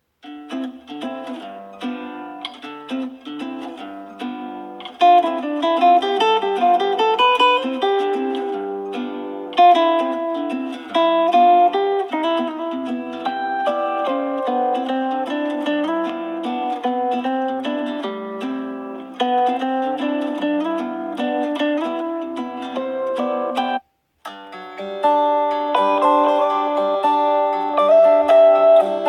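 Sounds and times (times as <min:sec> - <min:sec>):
plucked-string ringtone melody: 0:00.2 - 0:29.0.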